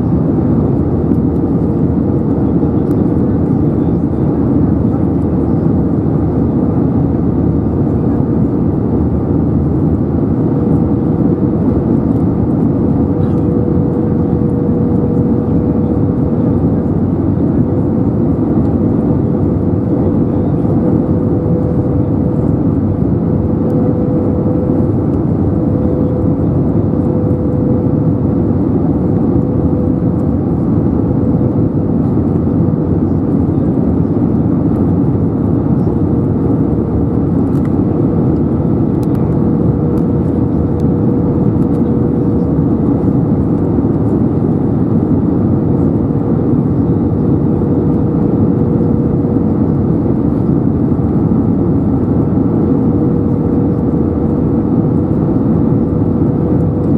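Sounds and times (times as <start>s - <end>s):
airflow rush over airframe: 0.0s - 56.9s
jet engines humming: 0.0s - 56.9s.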